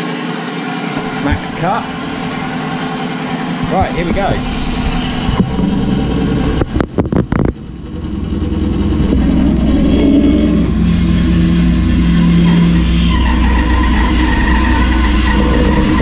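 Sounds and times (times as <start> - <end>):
bandsaw motor hum: 0.0 - 16.0.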